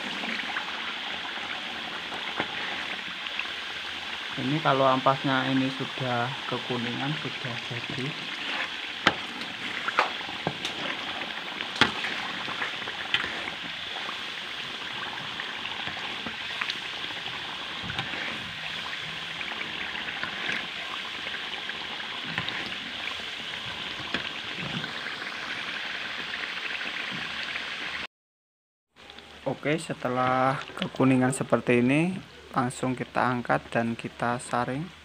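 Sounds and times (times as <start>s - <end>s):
curds sizzling in oil: 0.0s - 28.1s.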